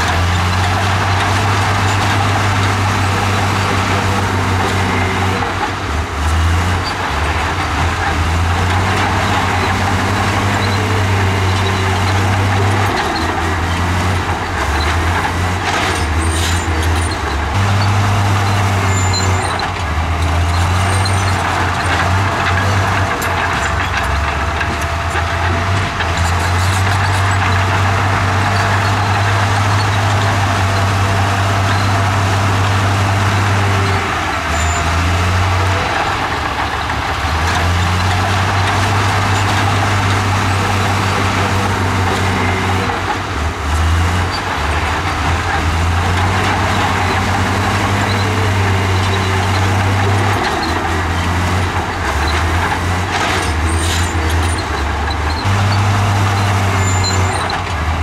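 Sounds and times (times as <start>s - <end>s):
bulldozer diesel engine running hard: 0.0s - 58.0s.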